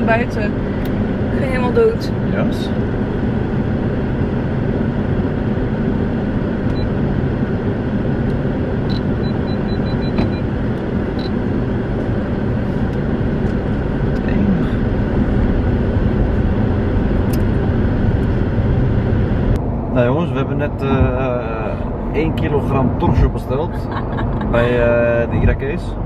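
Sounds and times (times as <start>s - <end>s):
car cabin rumble: 0.0s - 26.0s.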